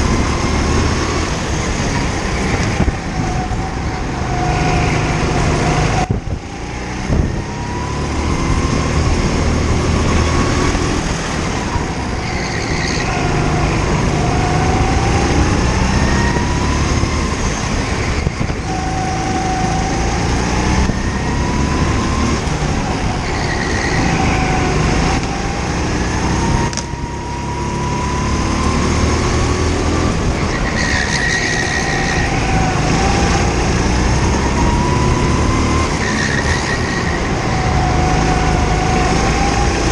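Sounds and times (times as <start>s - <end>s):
go-kart engine at full throttle: 0.0s - 39.9s.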